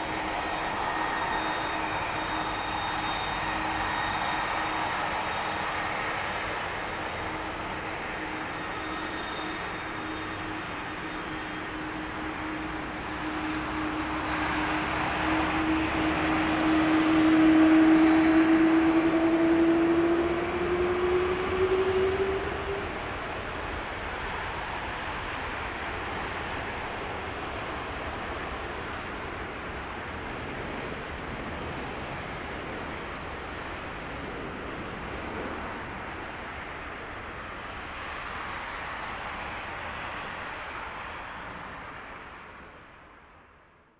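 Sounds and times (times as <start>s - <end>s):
airliner jet engines taxiing: 0.0s - 43.7s.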